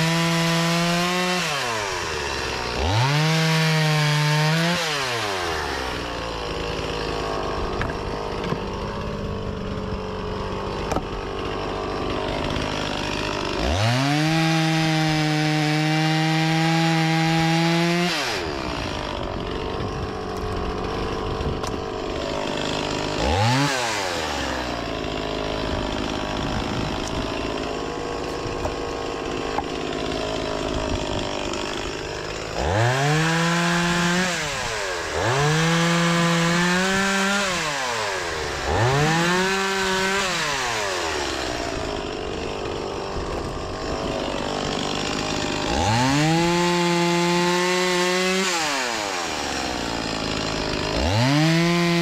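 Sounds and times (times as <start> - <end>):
chainsaw cutting logs: 0.0 - 52.0.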